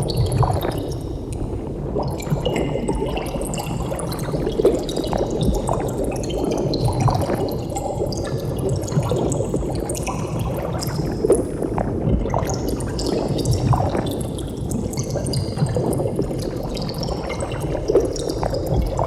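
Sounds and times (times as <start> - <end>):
bubbles popping: 0.0 - 19.0.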